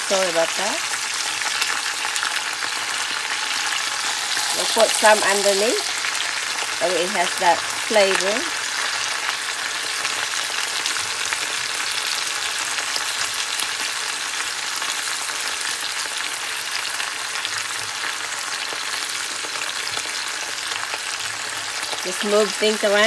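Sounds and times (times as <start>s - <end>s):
oil sizzling in a skillet: 0.0s - 23.0s.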